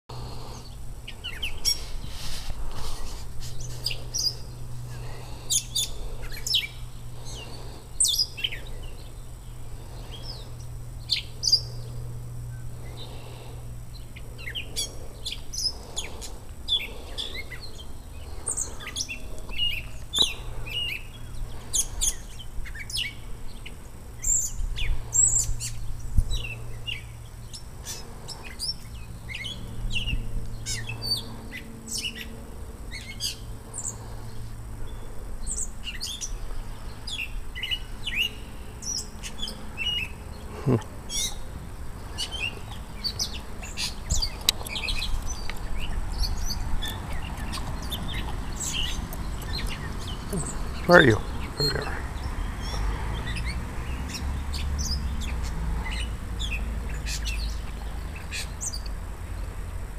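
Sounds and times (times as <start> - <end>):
birds chirping: 0.1 - 59.8
steady low hum: 0.1 - 59.9.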